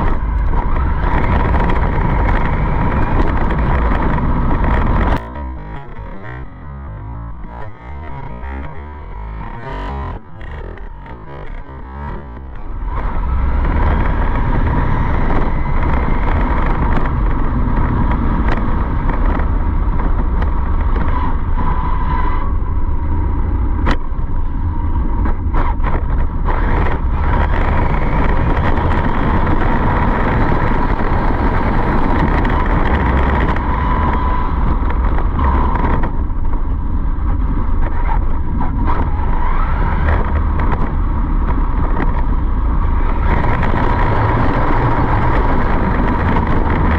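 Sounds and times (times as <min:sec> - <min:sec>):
constant whine: 0:00.0 - 0:46.9
vehicle engine rumbling: 0:00.0 - 0:46.9.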